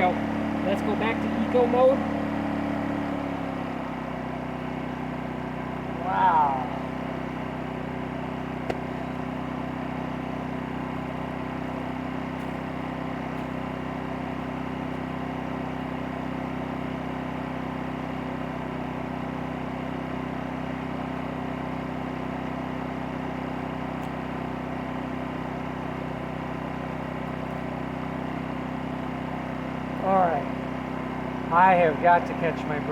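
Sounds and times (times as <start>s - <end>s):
generator engine hum: 0.0s - 32.9s.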